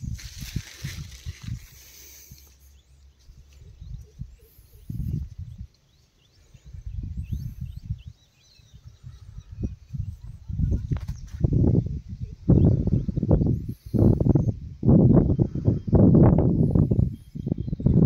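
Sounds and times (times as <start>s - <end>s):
wind buffeting microphone: 0.0s - 2.6s, 3.3s - 18.0s
faint bird chirps: 1.8s - 18.0s.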